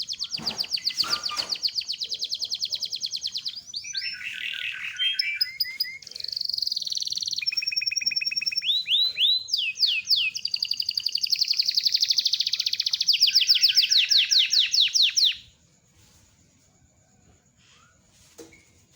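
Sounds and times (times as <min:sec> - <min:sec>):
canary singing trills: 0:00.0 - 0:15.5.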